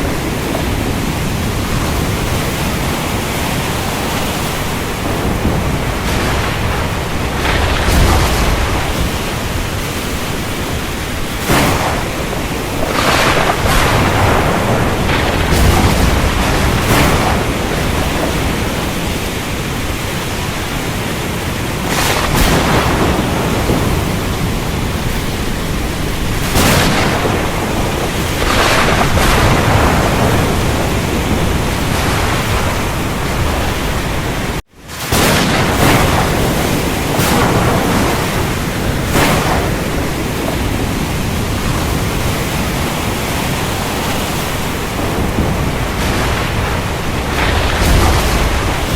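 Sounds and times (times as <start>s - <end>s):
heavy rain hiss: 0.0s - 48.9s
thunder: 0.0s - 48.9s.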